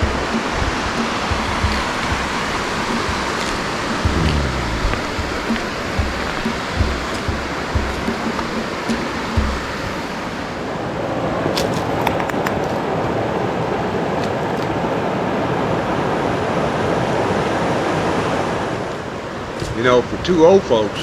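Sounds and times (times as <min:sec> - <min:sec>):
flowing water: 0:00.0 - 0:18.6.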